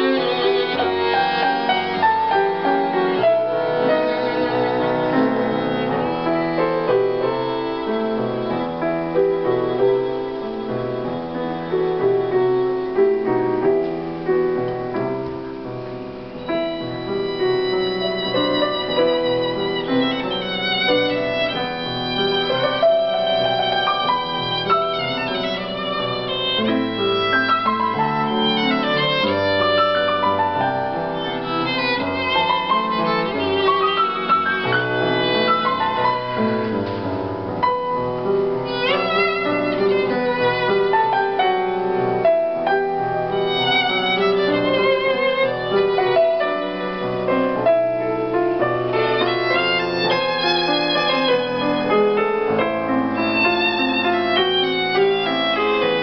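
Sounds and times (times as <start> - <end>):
violin melody with vibrato: 0.0 - 14.3, 16.3 - 56.0
grand piano accompaniment: 0.0 - 56.0.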